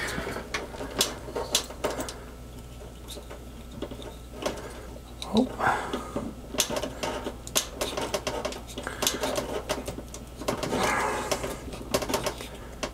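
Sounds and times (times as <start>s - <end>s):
wires rustling and clicking: 0.0s - 12.9s.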